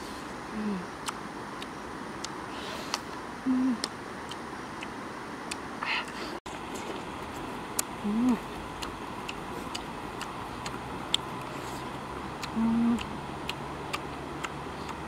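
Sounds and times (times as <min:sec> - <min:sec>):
closed-mouth hums: 0:00.0 - 0:15.0
chewing and lip-smacking: 0:01.0 - 0:03.1, 0:03.8 - 0:15.0.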